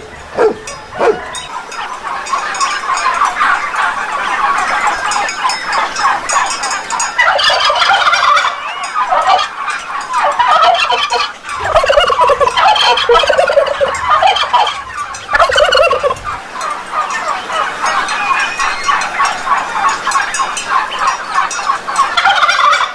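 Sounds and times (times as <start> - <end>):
turkey gobbling: 0.0 - 22.9.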